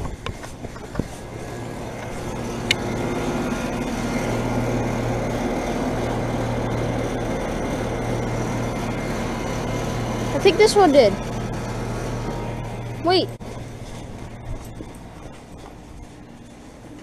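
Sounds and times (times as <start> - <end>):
heat pump compressor hum: 0.0 - 17.0.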